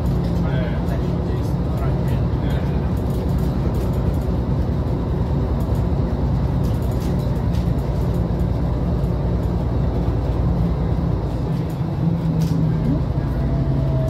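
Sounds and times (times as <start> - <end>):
bus diesel engine drone: 0.0 - 14.0
road noise: 0.0 - 14.0.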